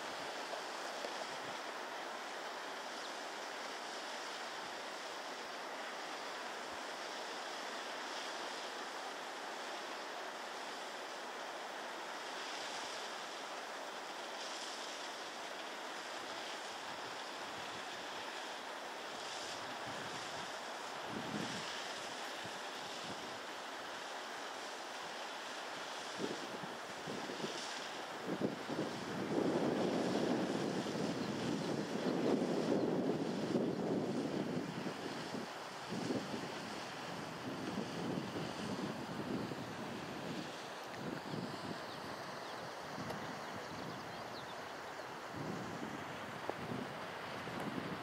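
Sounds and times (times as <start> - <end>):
steady rushing wind noise: 0.0 - 48.0.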